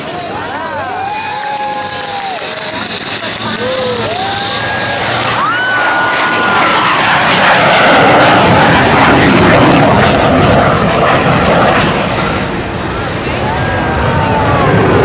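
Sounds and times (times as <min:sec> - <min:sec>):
loud jet roar: 0:00.0 - 0:15.0.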